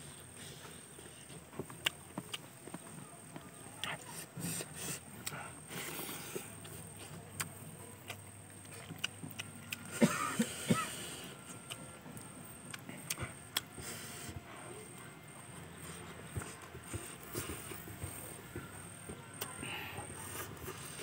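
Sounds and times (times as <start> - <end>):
chewing and mouth noises: 0.4 - 10.0, 10.9 - 18.7.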